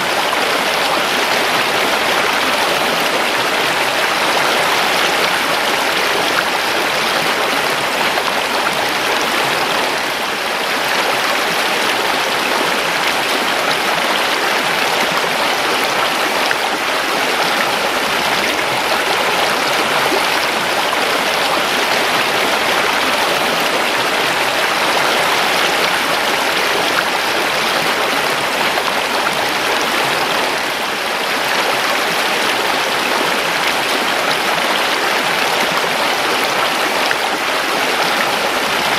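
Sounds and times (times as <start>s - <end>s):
creek water rushing over stones: 0.0s - 38.9s.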